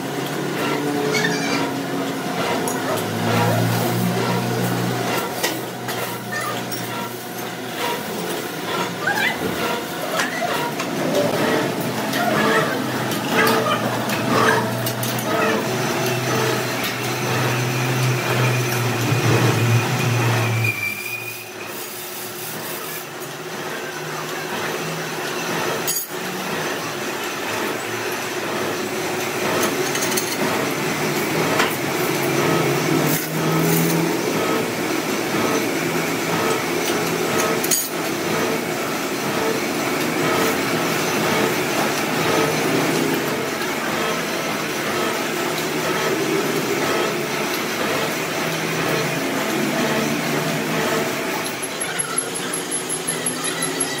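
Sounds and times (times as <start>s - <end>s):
lathe machinery running: 0.0s - 54.0s.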